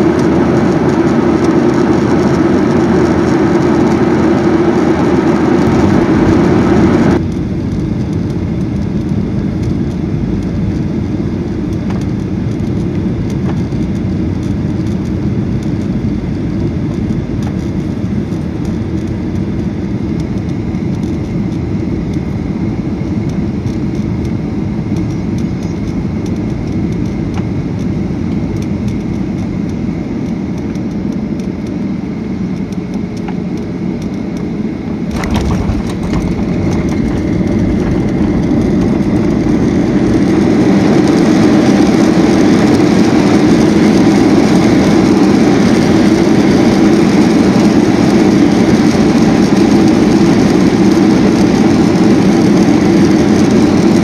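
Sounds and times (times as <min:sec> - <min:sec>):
jet engine cabin noise: 0:00.0 - 0:54.0.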